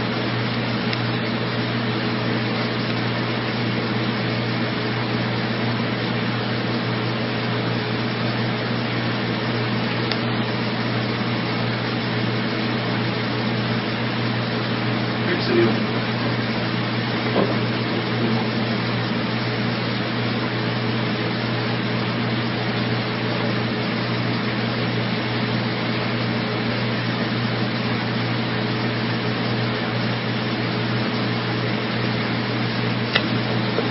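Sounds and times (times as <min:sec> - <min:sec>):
fan humming and hissing: 0:00.0 - 0:33.9.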